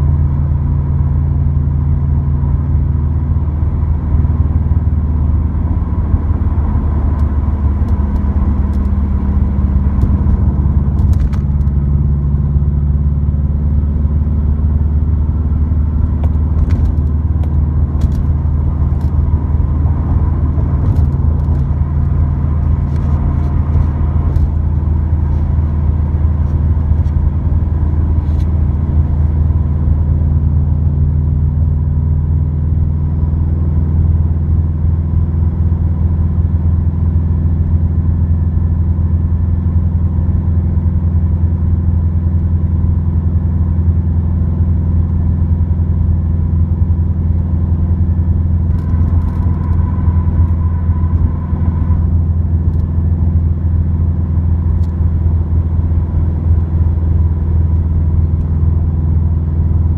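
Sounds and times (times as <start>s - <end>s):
low exhaust drone: 0.0s - 59.9s.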